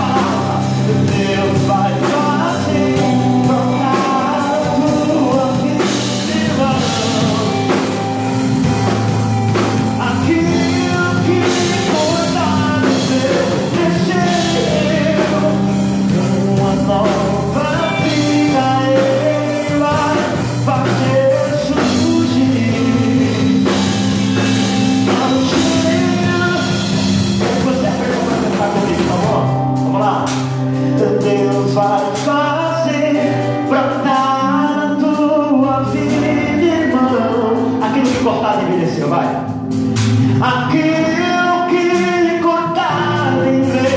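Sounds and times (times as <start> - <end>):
worship song singing with band: 0.0 - 43.9.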